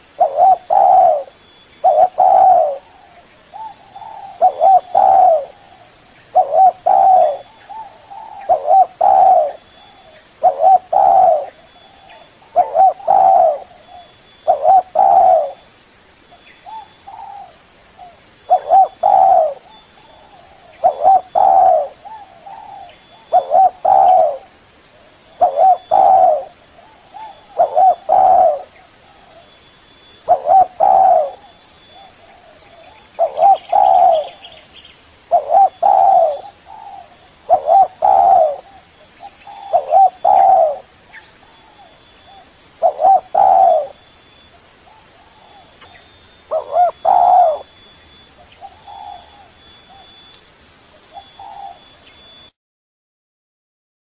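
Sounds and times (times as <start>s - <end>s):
dove cooing: 0.0s - 15.7s, 16.6s - 29.5s, 30.1s - 50.3s, 51.0s - 52.5s.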